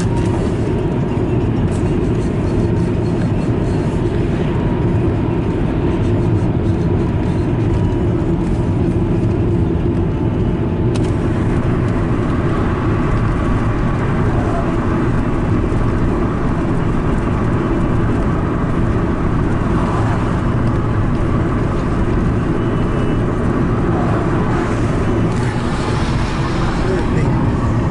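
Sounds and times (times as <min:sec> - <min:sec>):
car road and engine noise: 0:00.0 - 0:27.9.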